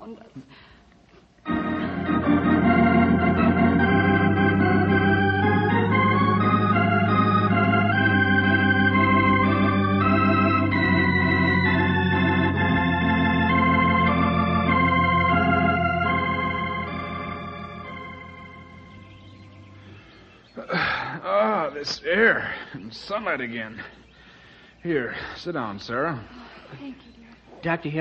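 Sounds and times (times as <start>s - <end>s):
organ music: 1.4s - 26.3s.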